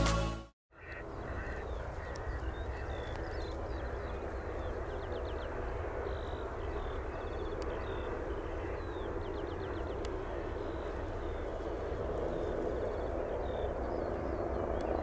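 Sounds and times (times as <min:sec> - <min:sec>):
helicopter flying past: 0:00.8 - 0:15.0
small birds chirping: 0:00.8 - 0:15.0.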